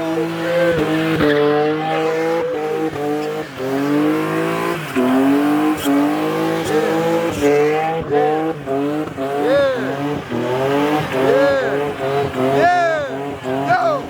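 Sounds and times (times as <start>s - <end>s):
car tires squealing: 0.0s - 14.0s.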